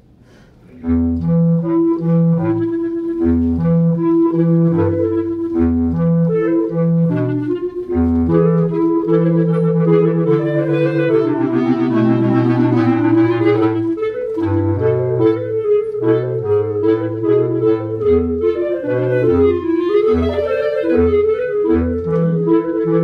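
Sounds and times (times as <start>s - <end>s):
clarinet trio playing: 0.7s - 23.0s.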